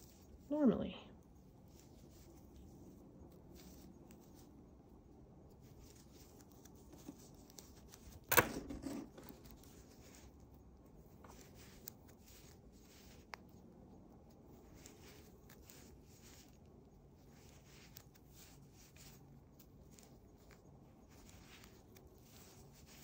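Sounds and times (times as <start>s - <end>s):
knitting needles and yarn rustling: 0.0s - 23.0s.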